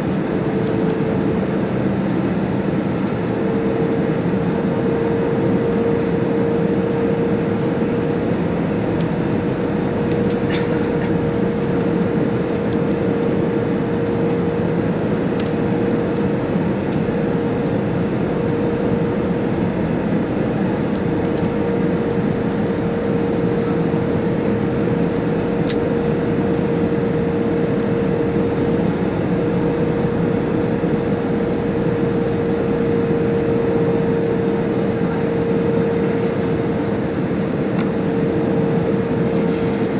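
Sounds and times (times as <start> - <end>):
airplane cabin airflow and engines: 0.0 - 39.9
steady humming tone: 0.0 - 39.9.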